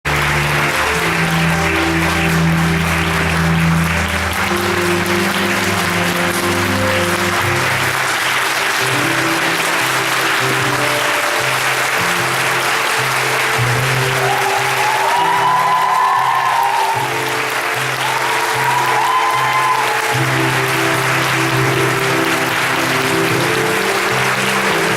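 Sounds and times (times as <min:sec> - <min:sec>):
audience applauding: 0:00.0 - 0:24.9
music with slow held notes: 0:00.1 - 0:15.4, 0:19.7 - 0:24.9.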